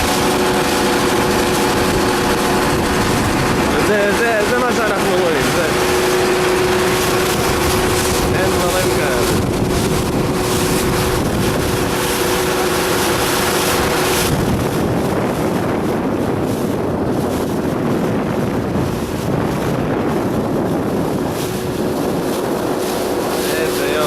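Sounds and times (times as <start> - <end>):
motorboat engine running: 0.0 - 24.0
steady hum: 0.0 - 24.0
wind buffeting microphone: 0.0 - 24.0.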